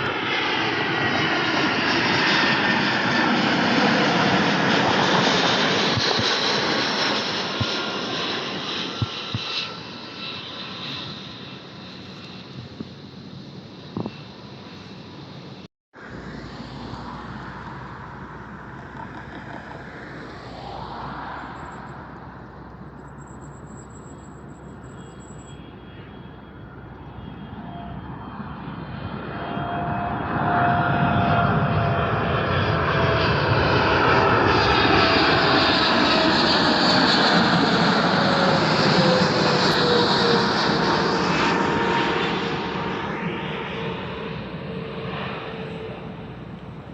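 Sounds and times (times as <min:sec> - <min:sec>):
jet airliner passing: 0:00.0 - 0:46.9
jet engine whine falling: 0:00.0 - 0:46.9.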